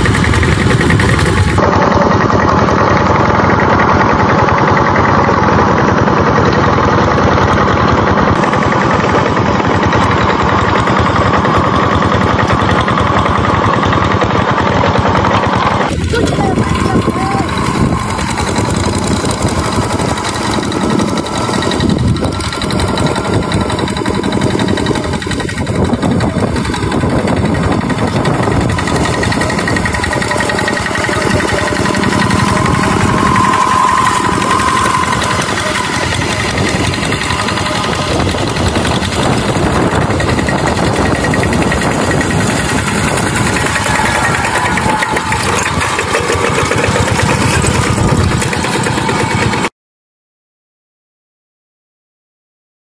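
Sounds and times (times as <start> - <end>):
diesel engine running loudly: 0.0 - 49.7.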